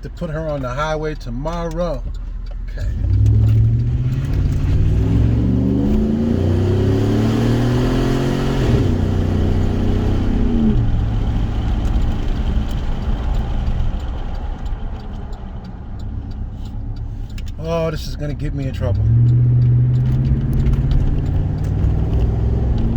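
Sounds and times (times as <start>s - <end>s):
car engine accelerating hard: 0.0s - 22.9s.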